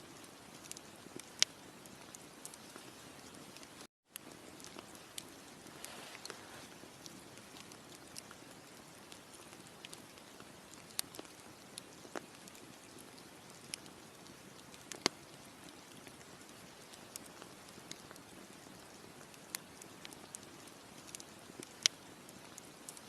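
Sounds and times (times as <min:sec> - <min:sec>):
campfire crackling and popping: 0:00.0 - 0:23.0
low steady hiss: 0:00.0 - 0:23.0.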